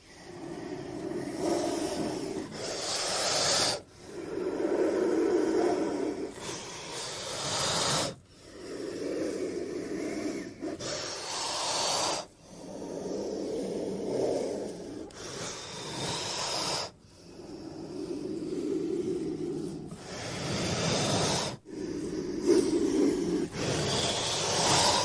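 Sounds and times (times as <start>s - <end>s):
creature breathing and hissing: 0.0s - 25.0s.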